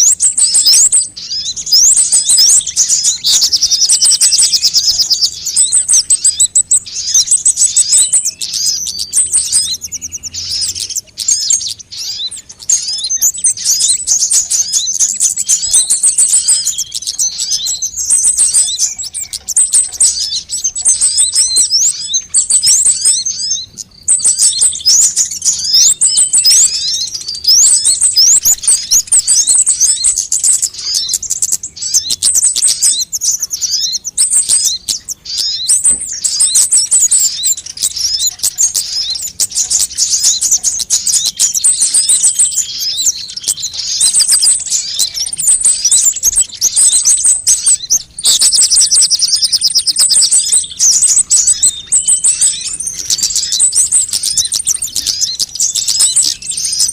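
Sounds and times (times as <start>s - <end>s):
bird chirps and trills: 0.0s - 56.9s.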